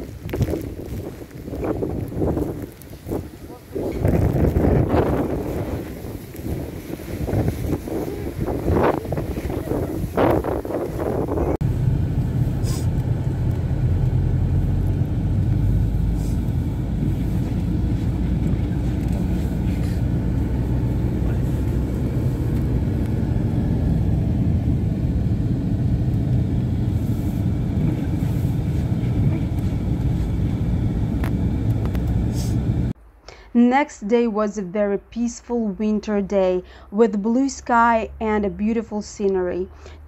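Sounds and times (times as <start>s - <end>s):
engine and tyres rumbling: 0.0s - 33.1s.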